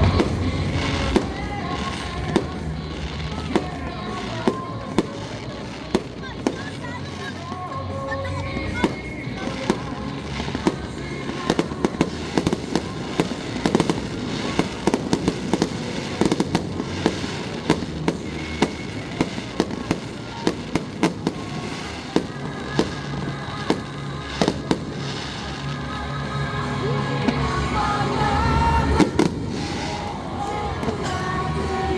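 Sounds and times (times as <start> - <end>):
fireworks bangs: 0.0 - 31.9
music playing: 0.0 - 31.9.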